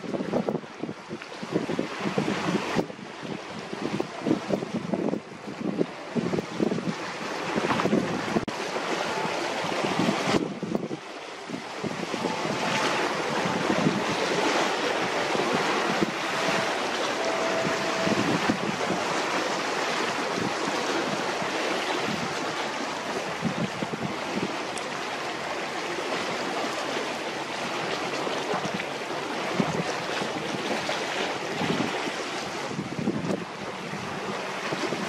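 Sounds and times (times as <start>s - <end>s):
choppy sea: 0.0s - 35.0s
wind buffeting microphone: 0.0s - 35.0s.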